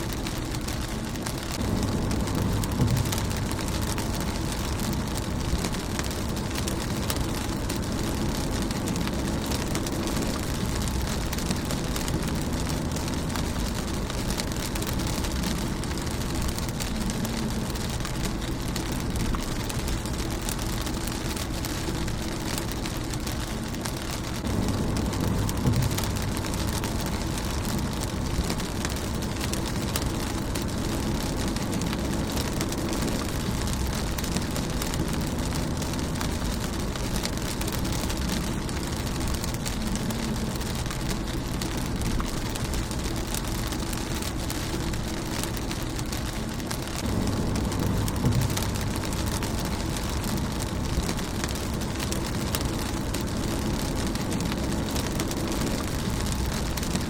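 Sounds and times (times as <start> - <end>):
low rumble: 0.0 - 57.0
rain on a car windscreen: 0.0 - 57.0.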